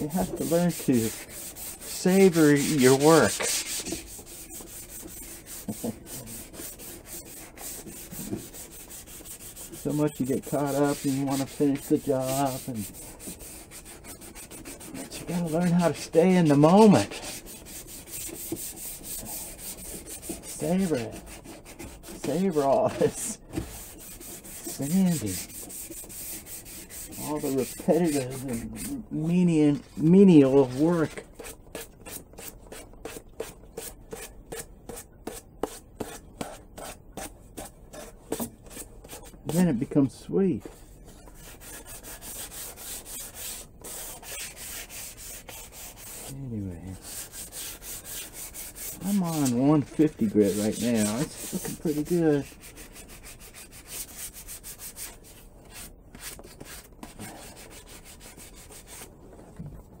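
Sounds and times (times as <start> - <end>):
sandpaper scratching on wood: 0.0 - 40.0, 40.6 - 59.1.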